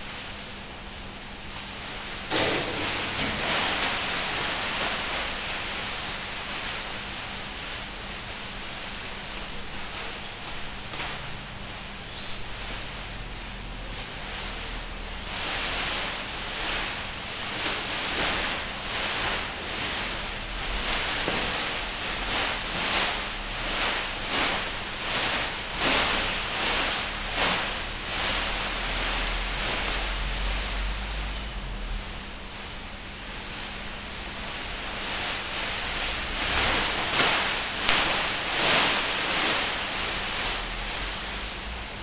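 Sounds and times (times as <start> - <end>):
plastic sheeting rustling: 0.0 - 42.0.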